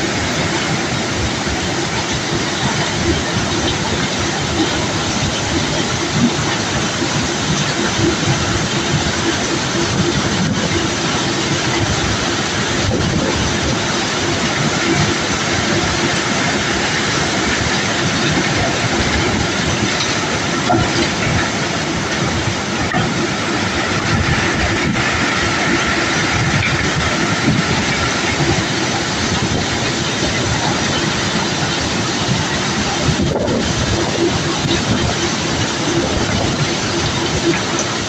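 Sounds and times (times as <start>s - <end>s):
cobblestones rattling: 0.0s - 38.0s.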